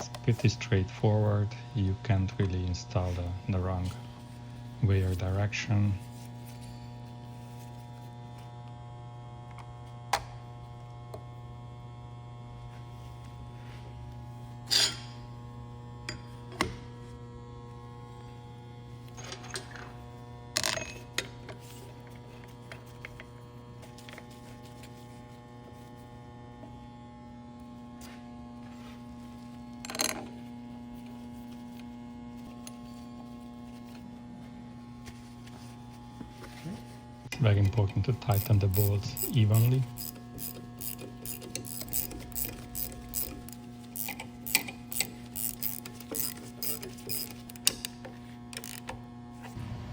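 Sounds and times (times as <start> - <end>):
electrical hum: 0.0 - 49.9.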